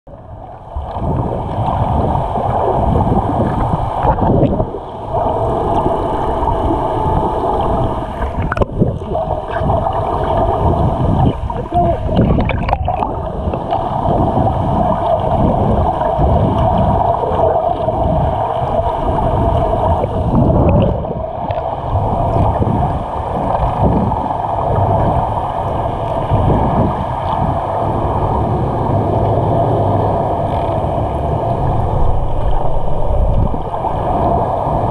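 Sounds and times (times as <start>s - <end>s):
boat engine whine underwater: 0.1s - 34.9s
underwater rush of water: 0.1s - 34.9s.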